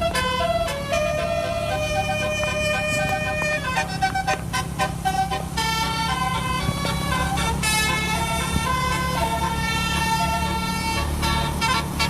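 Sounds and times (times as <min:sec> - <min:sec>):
low engine hum: 0:00.0 - 0:12.0
multi-tone horn playing a tune: 0:00.0 - 0:12.0.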